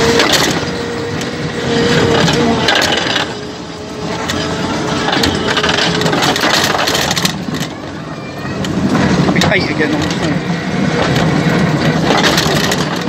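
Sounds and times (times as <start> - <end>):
ride car rumbling along track: 0.0 - 13.0.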